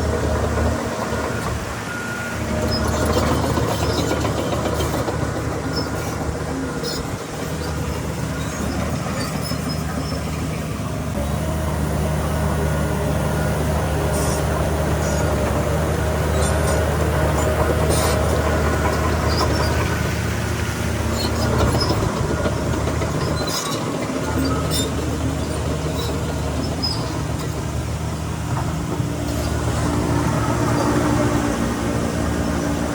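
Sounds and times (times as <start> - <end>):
steel tracks clanking: 0.0 - 11.2, 13.8 - 32.9
diesel engine running: 0.0 - 32.9.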